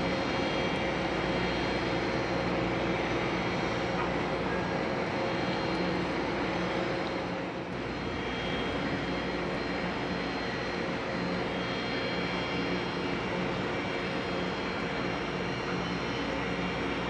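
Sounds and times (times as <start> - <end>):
diesel engines humming: 0.0 - 17.0.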